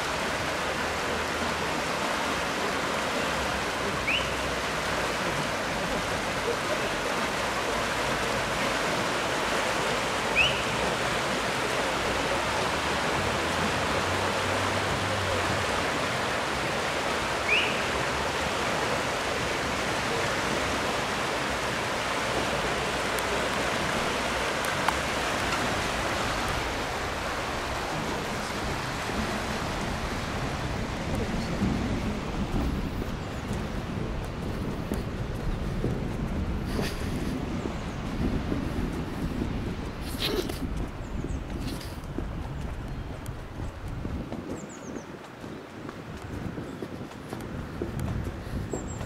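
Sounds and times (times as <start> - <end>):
flood river rushing: 0.0 - 49.0.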